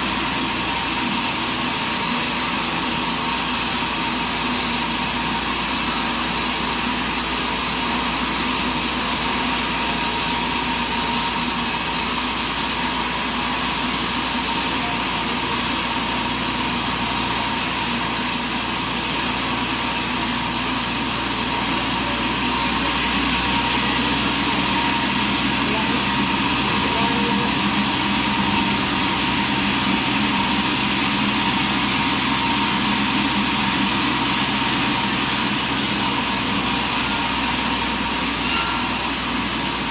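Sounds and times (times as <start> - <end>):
sawmill engine droning: 0.0 - 39.9.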